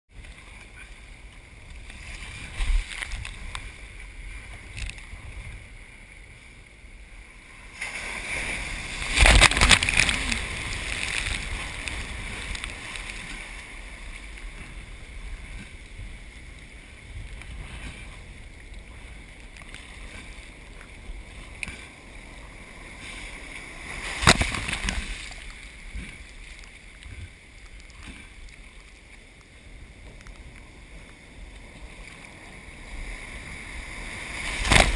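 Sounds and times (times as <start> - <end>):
heavy surf: 0.1 - 34.9
wind: 0.1 - 34.9
waves crashing: 0.2 - 34.9.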